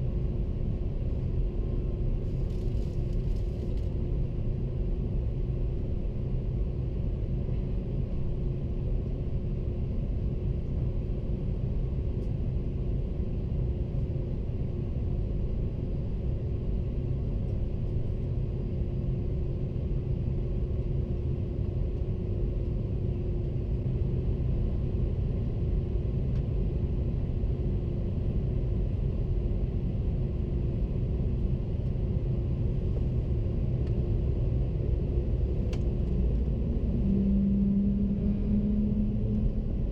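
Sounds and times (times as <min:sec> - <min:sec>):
constant low hum: 0:00.0 - 0:39.9
jet engines and airflow rumble: 0:00.0 - 0:39.9.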